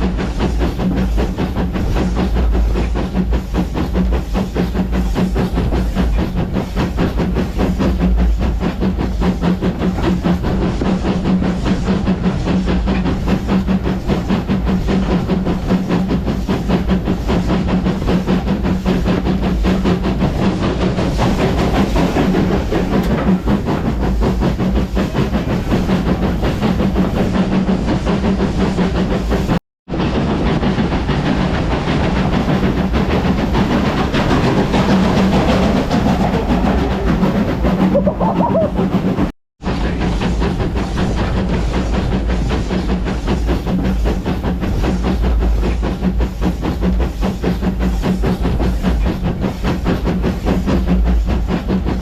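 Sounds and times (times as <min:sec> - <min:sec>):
steam train rumble and clatter: 0:00.0 - 0:52.0.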